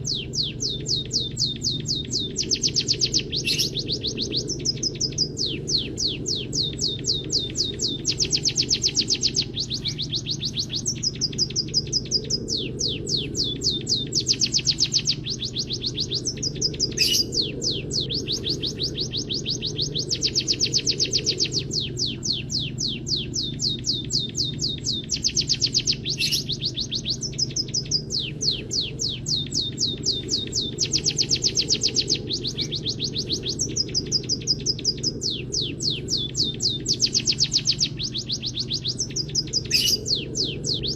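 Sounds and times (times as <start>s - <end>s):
birds chirping trills: 0.0s - 40.9s
steady low hum: 0.0s - 40.9s.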